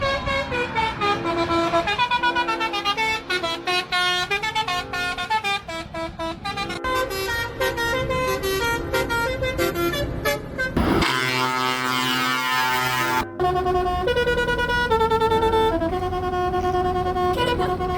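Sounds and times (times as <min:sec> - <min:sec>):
long horn blast: 0:00.0 - 0:17.9
musical truck horn tune: 0:00.0 - 0:17.9.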